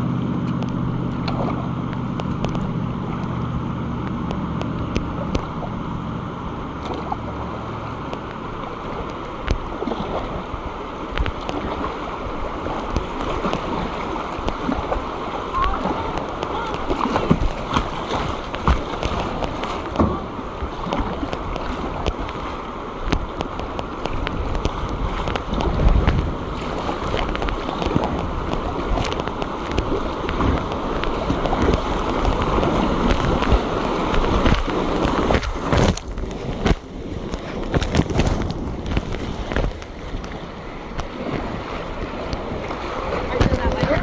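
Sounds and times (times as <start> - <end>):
water rushing and splashing: 0.0 - 44.0.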